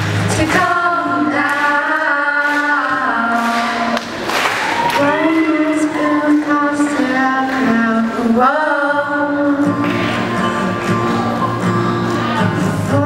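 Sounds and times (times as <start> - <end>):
girls singing in harmony: 0.0 - 4.1, 4.8 - 13.0
acoustic guitar: 0.0 - 13.0.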